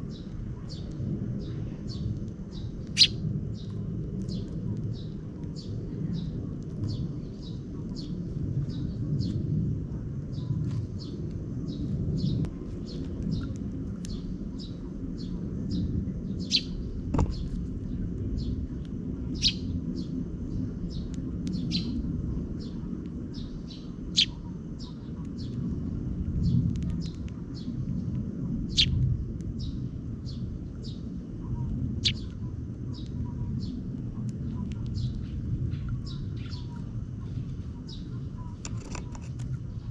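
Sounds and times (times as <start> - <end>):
sparrow chicks chirping: 0.0 - 9.4, 10.2 - 18.7, 19.3 - 25.7, 26.3 - 39.9
low rumble: 0.0 - 39.9.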